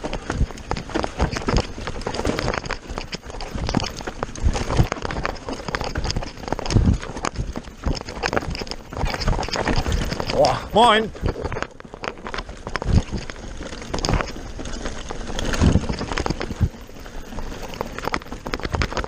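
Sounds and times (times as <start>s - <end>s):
bike rattling and thudding: 0.0s - 19.0s
tyres skidding on dirt and stones: 0.0s - 19.0s.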